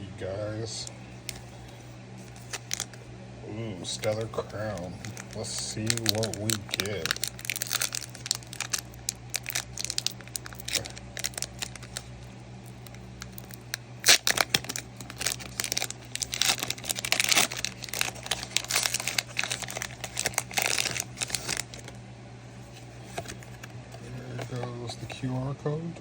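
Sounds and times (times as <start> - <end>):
faint steady hum: 0.0 - 26.0
foil wrapper crinkling and tearing: 1.2 - 3.0, 3.8 - 22.0, 22.7 - 25.2.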